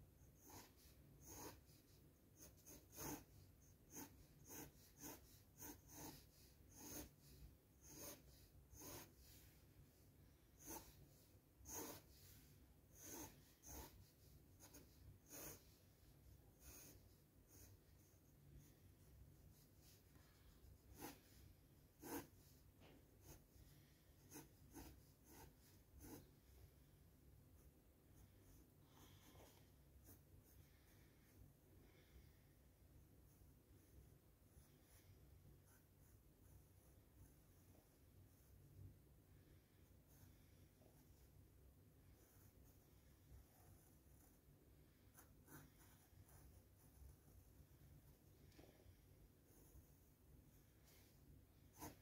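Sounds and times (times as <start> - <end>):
pencil scratching on paper: 0.0 - 32.2, 32.9 - 52.0
low steady hum: 0.0 - 52.0.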